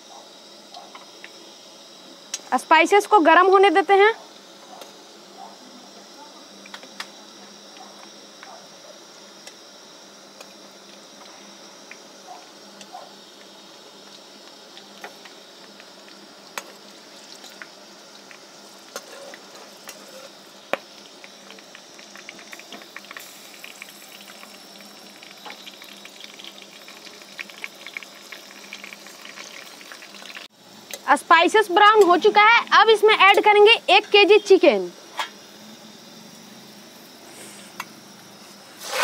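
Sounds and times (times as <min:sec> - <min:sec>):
spices sizzling in hot oil: 0:05.9 - 0:39.0.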